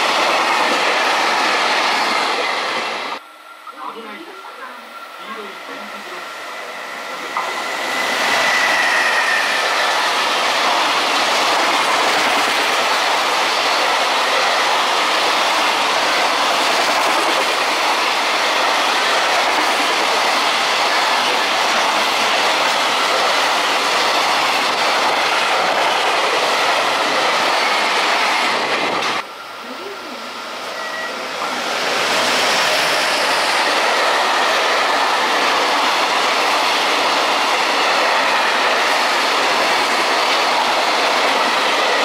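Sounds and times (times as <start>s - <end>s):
freight train passing: 0.0s - 42.0s.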